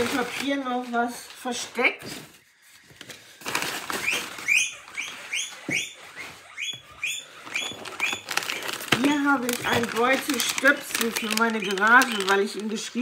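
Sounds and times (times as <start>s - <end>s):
paper rustling and crinkling: 0.0s - 6.5s, 7.4s - 13.0s
high squeaky chirps: 2.4s - 13.0s.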